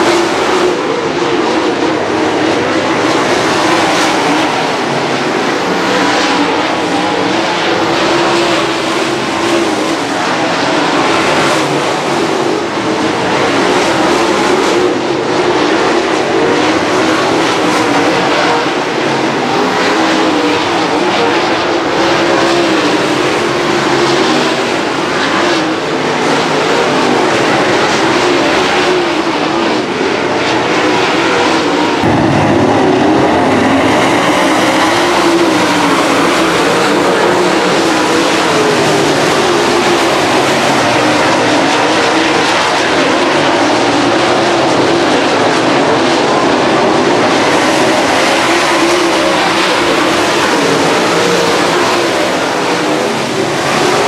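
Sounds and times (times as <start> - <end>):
race car engines at speed: 0.0 - 54.0.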